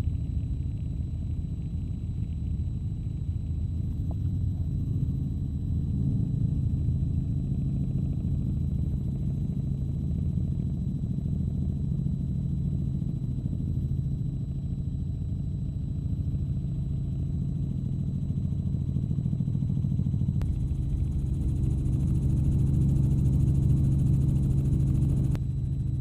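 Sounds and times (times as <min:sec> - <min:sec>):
faint high whine: 0:00.0 - 0:26.0
helicopter rotor drone: 0:00.0 - 0:26.0.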